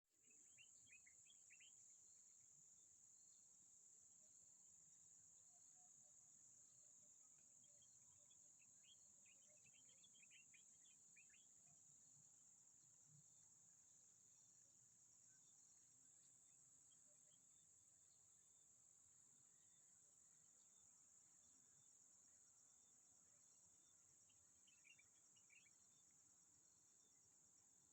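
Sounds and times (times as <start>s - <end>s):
faint chirps: 0.1s - 27.9s.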